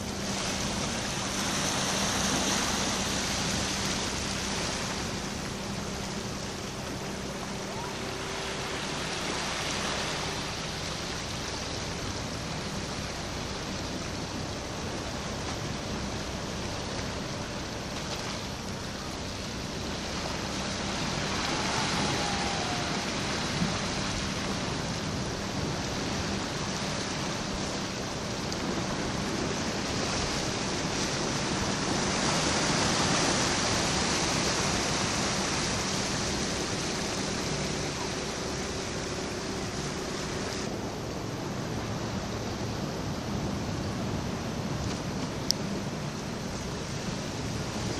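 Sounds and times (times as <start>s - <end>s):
sea water washing against rocks: 0.0s - 47.9s.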